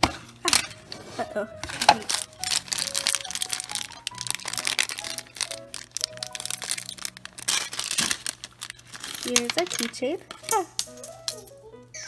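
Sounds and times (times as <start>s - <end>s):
light background music: 0.0s - 12.0s
plastic wrapper crinkling: 1.2s - 11.5s.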